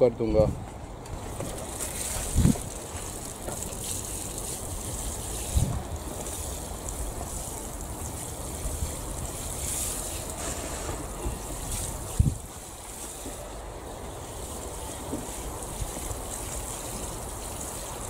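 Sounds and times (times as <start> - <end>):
wind rumbling on microphone: 0.3 - 18.0
water spraying from watering can: 1.1 - 18.0.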